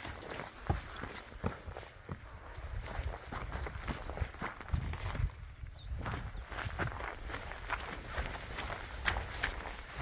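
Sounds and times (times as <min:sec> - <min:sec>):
footsteps walking: 0:00.0 - 0:10.0.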